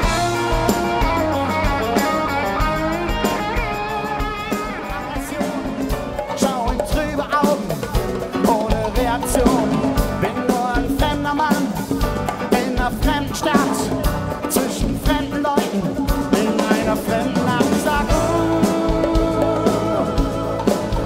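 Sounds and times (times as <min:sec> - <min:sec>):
drum kit beating: 0:00.0 - 0:21.0
rock band playing: 0:00.0 - 0:21.0.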